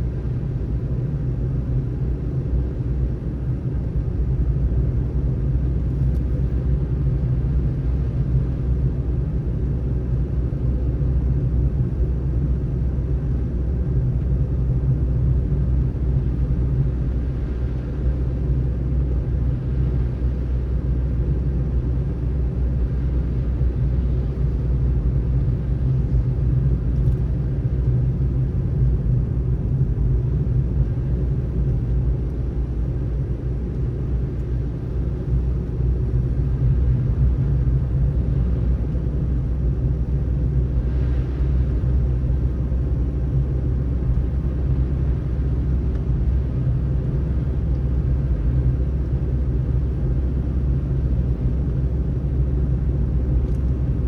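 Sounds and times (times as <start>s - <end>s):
car driving on snowy road: 0.0s - 54.0s.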